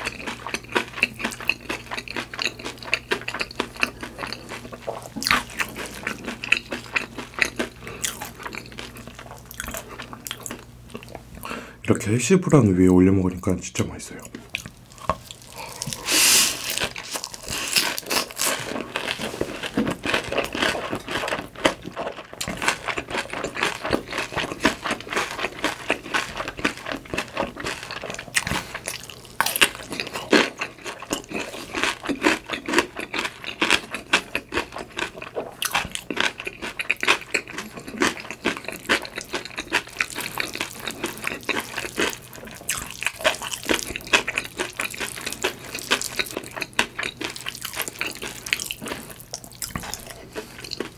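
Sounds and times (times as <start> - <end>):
wet chewing and crunching: 0.0 - 11.5, 14.3 - 50.9.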